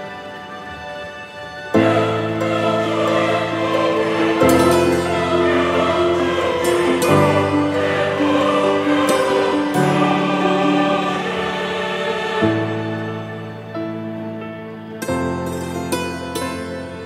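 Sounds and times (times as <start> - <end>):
music with long held chords: 0.0 - 17.0.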